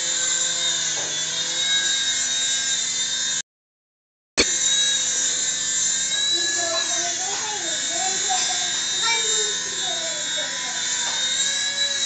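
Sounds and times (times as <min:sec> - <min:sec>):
rc helicopter motor whine: 0:00.0 - 0:03.4, 0:04.4 - 0:12.0.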